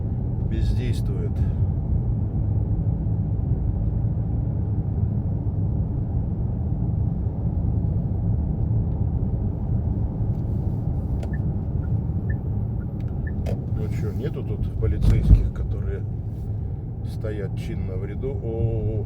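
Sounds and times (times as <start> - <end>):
car engine rumble: 0.0 - 19.0.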